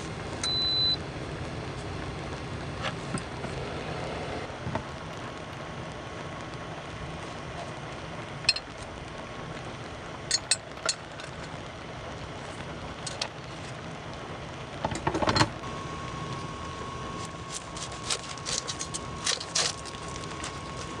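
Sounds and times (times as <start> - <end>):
steady rain: 1.0 - 21.0.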